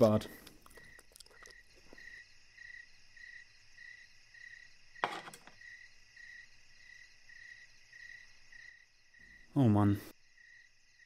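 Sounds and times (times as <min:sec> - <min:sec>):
crickets chirping: 0:00.0 - 0:11.0
faint high insect hiss: 0:00.0 - 0:11.0.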